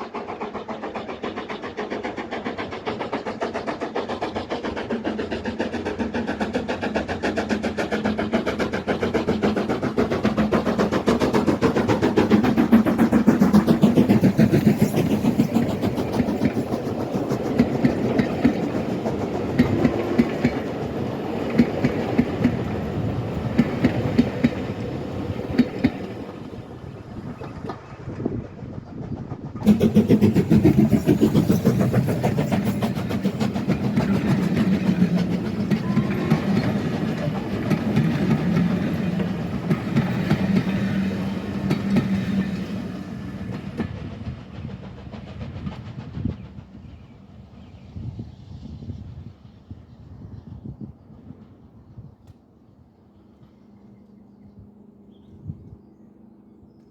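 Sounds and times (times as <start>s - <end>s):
train wheels clicking over rail joints: 0.0s - 47.8s.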